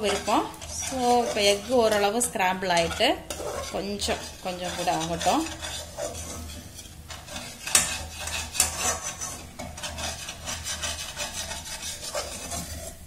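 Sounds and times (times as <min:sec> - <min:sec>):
metal spoon scraping a metal pan: 0:00.0 - 0:13.0.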